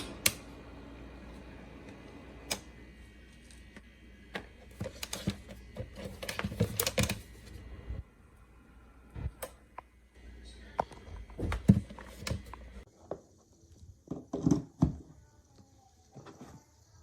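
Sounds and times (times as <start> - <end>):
heater fan hum: 0.0 - 17.0.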